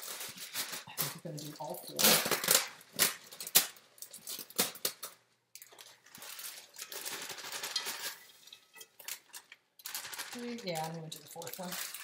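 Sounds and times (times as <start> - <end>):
plastic bag crinkling and rustling: 0.0 - 12.0.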